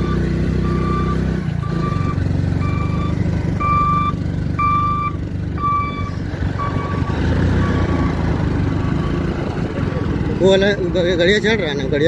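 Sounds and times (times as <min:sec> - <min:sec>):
truck reversing alarm beeping: 0:00.0 - 0:09.7
truck engine running: 0:00.0 - 0:12.0.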